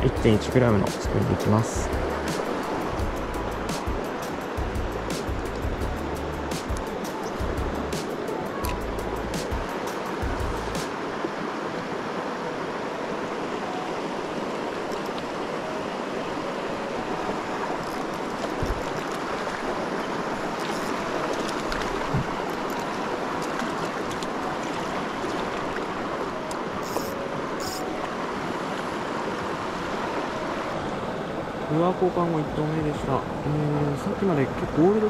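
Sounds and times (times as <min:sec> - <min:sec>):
river flowing over gravel: 0:00.0 - 0:35.0.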